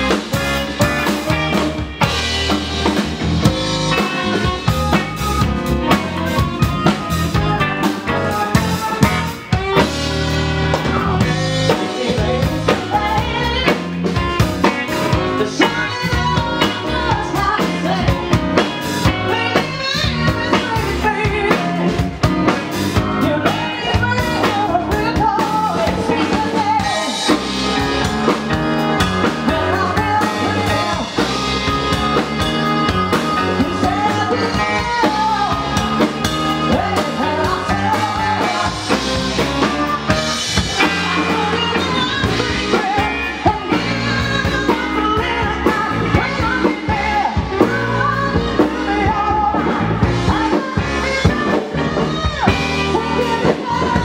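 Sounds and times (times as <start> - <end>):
bass: 0.0 - 54.0
drum kit beat: 0.0 - 54.0
keyboard: 0.0 - 54.0
woman singing: 3.9 - 54.0.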